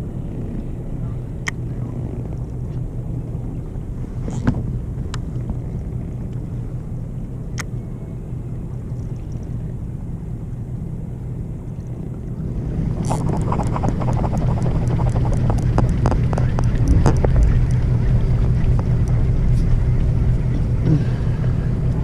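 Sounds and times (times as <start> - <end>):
boat engine humming: 0.0 - 22.0
rushing water with crackles: 0.0 - 22.0.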